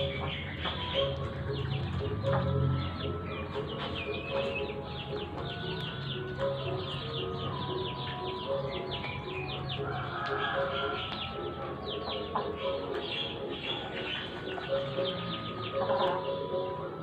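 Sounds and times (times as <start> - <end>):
birds chirping: 0.0 - 17.0
low cooing notes: 0.0 - 17.0.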